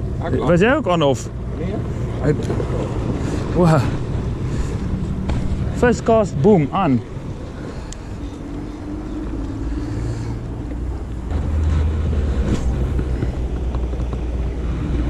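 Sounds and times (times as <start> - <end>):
wind rumbling on microphone: 1.3 - 15.0.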